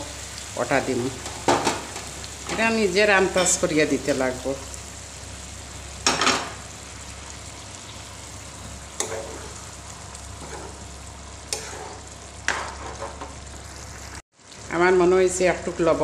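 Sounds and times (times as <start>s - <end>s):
rice sizzling and bubbling in pan: 0.0s - 16.0s.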